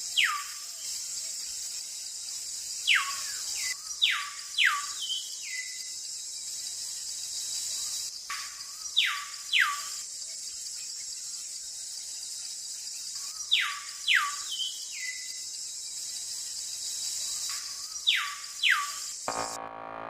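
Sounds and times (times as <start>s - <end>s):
cricket-like high hiss: 0.0s - 19.3s.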